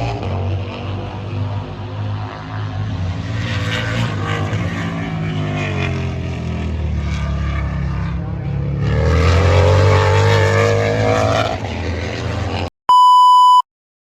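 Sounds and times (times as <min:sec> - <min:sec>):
racing motorcycle engines revving: 0:00.0 - 0:12.7.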